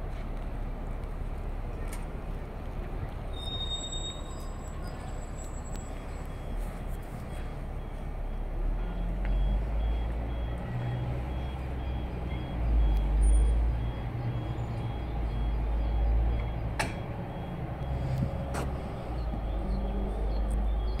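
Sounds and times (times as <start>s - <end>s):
vehicle engine rumble: 0.0s - 21.0s
faint high beep: 3.3s - 21.0s.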